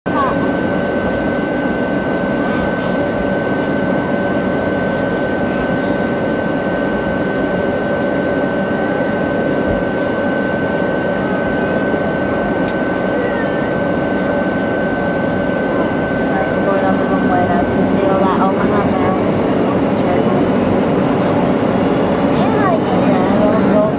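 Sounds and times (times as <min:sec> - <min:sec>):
jet engines whining in cabin: 0:00.1 - 0:23.9.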